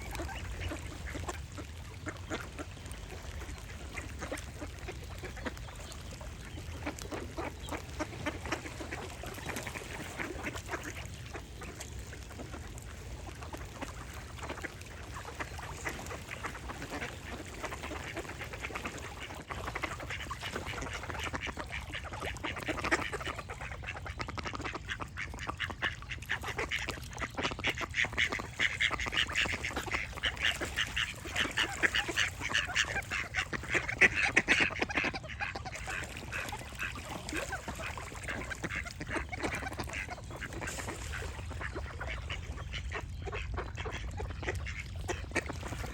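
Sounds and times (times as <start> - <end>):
ducks quacking: 0.0 - 45.9.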